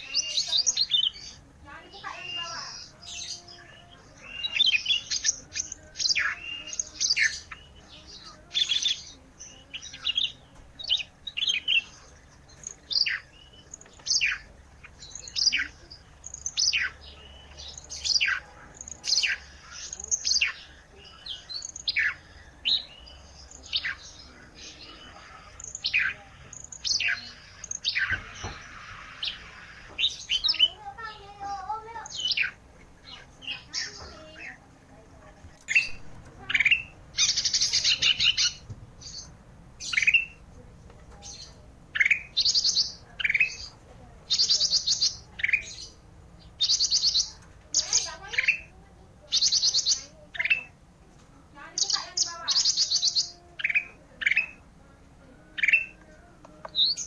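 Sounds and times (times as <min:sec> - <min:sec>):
songbird singing downward notes: 0:00.0 - 0:57.0.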